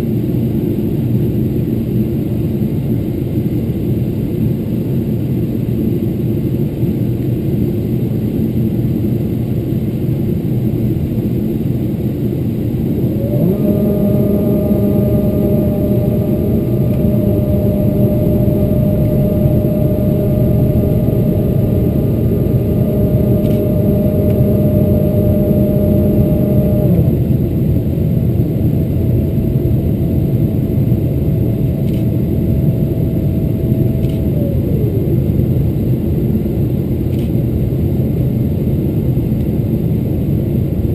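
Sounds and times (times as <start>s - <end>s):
aircraft cabin engine roar: 0.0s - 40.9s
rising whine: 0.0s - 40.9s.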